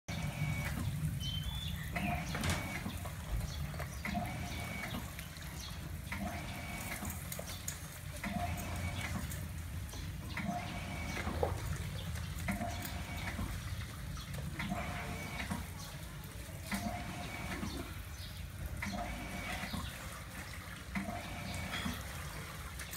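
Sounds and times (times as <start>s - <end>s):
shower water running into basin: 0.1s - 22.9s.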